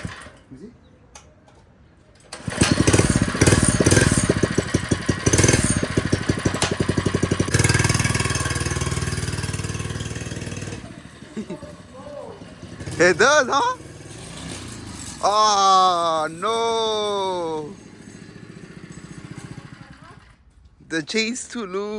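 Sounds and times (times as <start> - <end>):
small engine starting and running: 0.0 - 0.5, 2.2 - 20.6.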